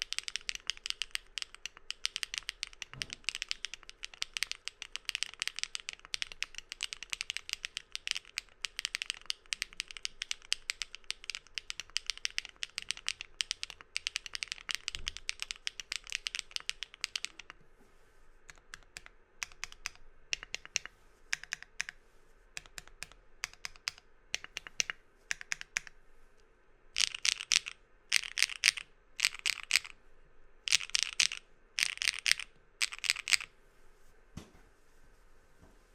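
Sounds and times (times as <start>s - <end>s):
typing on mechanical keyboard: 0.0s - 17.6s, 18.5s - 22.0s, 22.6s - 25.9s, 27.0s - 29.9s, 30.7s - 33.5s.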